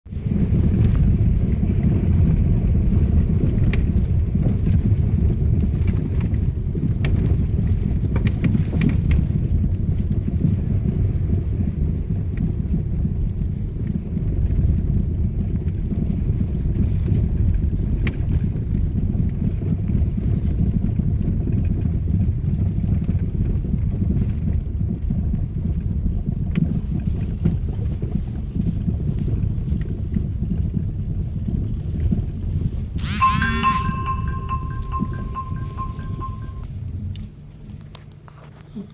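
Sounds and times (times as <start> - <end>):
road and tyre rumble: 0.1 - 33.0, 34.3 - 38.9.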